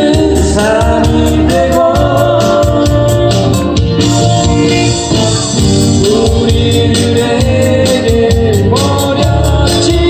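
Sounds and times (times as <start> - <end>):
live band instrumental music: 0.0 - 10.0.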